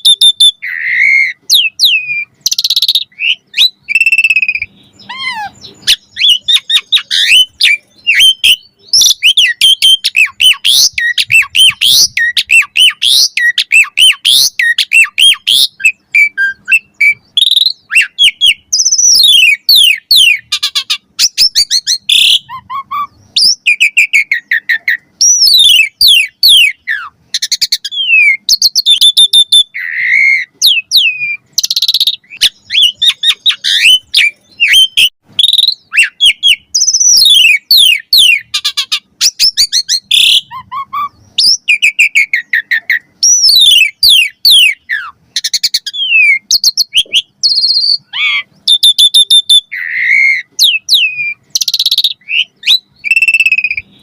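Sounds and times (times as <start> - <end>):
starling singing: 0.0 - 54.0.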